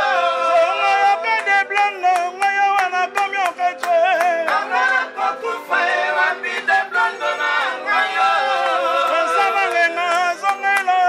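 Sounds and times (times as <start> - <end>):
musical backing: 0.0 - 11.0
voices singing together: 0.0 - 11.0.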